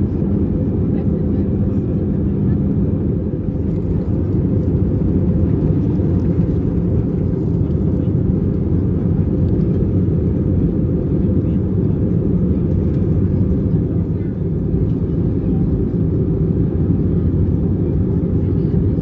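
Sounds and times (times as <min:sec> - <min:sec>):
airplane cabin engine roar: 0:00.0 - 0:19.0.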